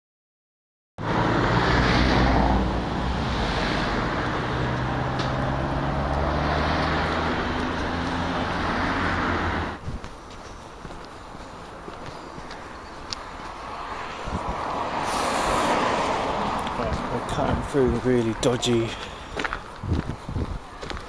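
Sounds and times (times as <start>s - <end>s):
passing cars rumbling: 1.0s - 20.6s.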